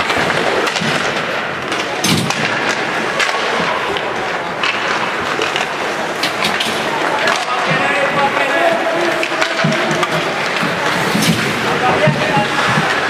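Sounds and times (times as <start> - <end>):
arena noise: 0.0 - 13.0
hockey sticks clacking on puck: 0.0 - 13.0.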